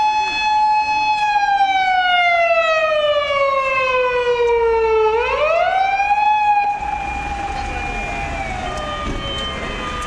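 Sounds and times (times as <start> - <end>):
fire engine siren wailing: 0.0 - 10.0.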